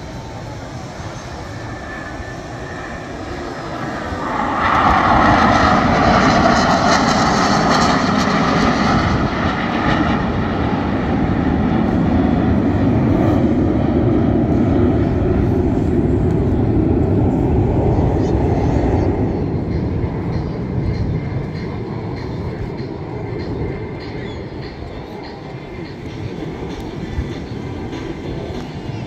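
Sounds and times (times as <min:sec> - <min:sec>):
falling jet whine: 0:00.0 - 0:29.0
jet engines flying past: 0:00.0 - 0:29.0
low jet rumble: 0:00.0 - 0:29.0.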